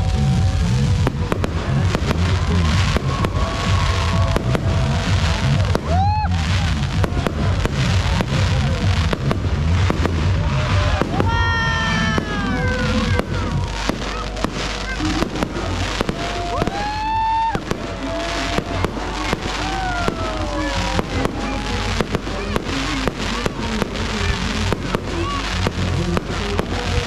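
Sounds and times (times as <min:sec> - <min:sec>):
fireworks exploding: 0:00.0 - 0:27.0.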